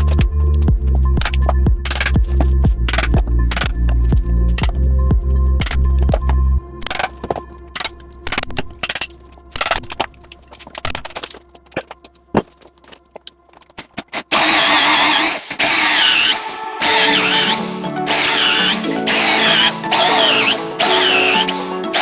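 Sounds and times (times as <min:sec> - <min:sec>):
background music: 0:00.0 - 0:13.4, 0:16.0 - 0:22.0.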